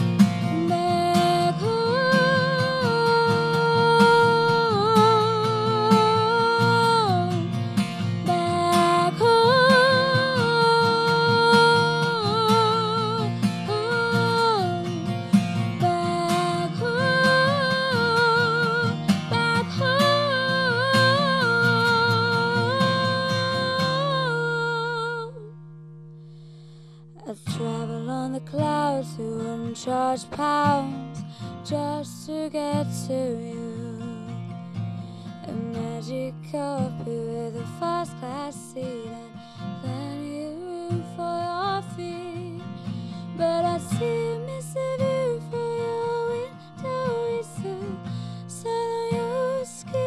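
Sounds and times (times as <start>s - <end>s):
woman singing wordless melody: 0.0s - 25.6s, 27.2s - 50.0s
strummed acoustic guitar: 0.0s - 50.0s.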